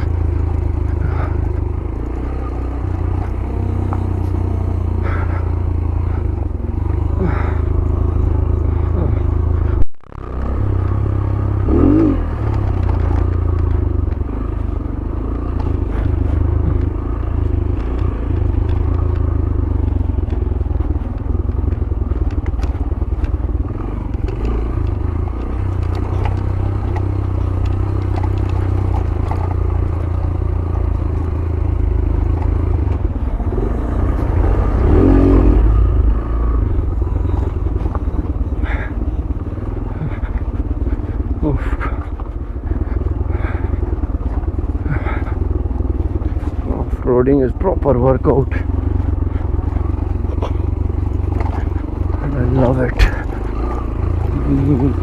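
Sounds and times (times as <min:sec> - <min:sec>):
motorcycle clattering and scraping: 0:00.0 - 0:55.0
motorcycle engine running: 0:00.0 - 0:55.0.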